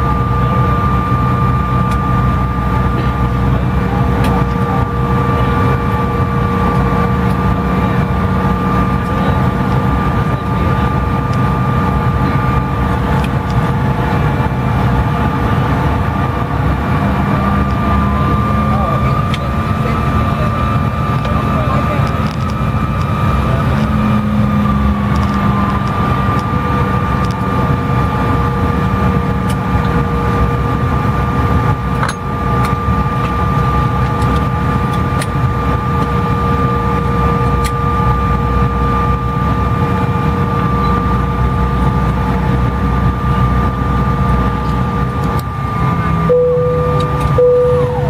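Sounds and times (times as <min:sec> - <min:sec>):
aircraft cabin rumble: 0:00.0 - 0:48.0
jet engine whine at idle: 0:00.0 - 0:48.0.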